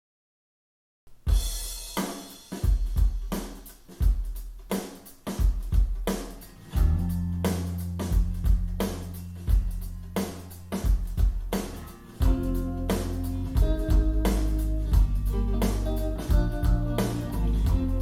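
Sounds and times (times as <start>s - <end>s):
instrumental pop music: 1.4s - 18.0s.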